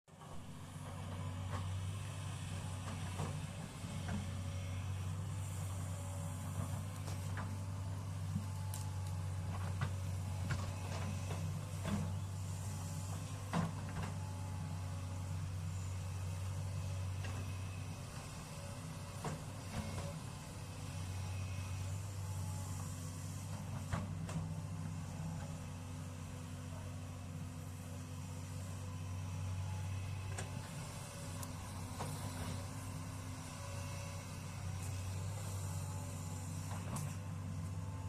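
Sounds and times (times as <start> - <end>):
excavator diesel engine humming: 0.2 - 38.0.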